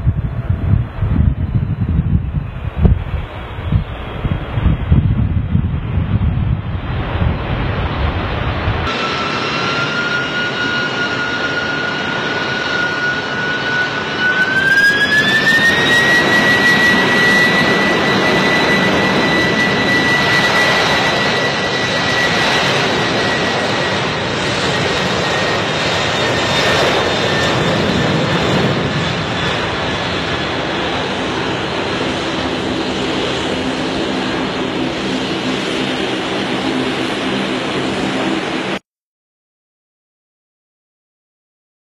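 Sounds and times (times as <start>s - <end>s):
jet engines roaring: 0.0s - 38.8s
jet engine whine: 0.0s - 38.9s.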